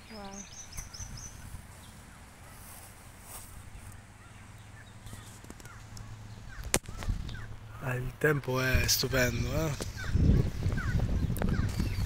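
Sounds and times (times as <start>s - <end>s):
faint bird calls: 0.0s - 7.9s, 9.6s - 12.0s
wind rumbling on microphone: 0.0s - 12.0s.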